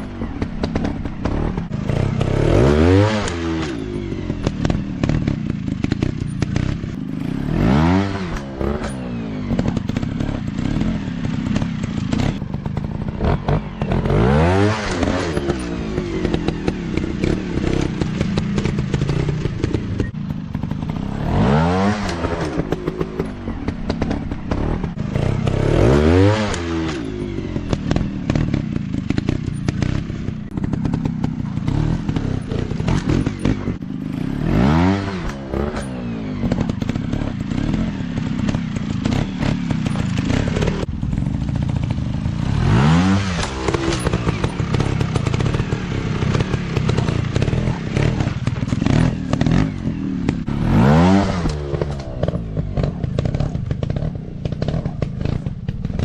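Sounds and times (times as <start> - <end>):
motorcycle engine revving: 0.0 - 56.0
motorcycle engines running: 0.0 - 56.0.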